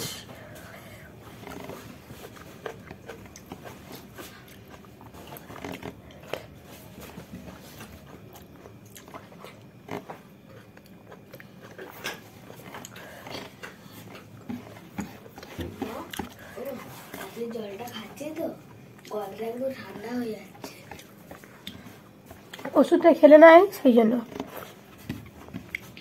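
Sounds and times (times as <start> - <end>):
person chewing food: 0.2 - 22.8, 24.2 - 26.0.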